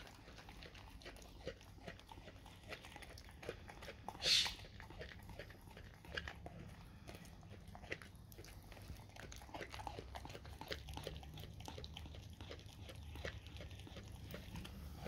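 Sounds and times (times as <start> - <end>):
dog gnawing raw meat: 0.0 - 15.0.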